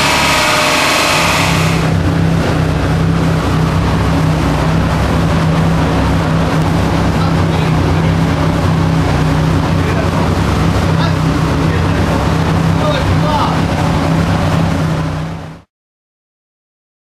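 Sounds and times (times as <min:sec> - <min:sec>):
engine running hard: 0:00.0 - 0:15.7
steady low drone: 0:00.0 - 0:15.7.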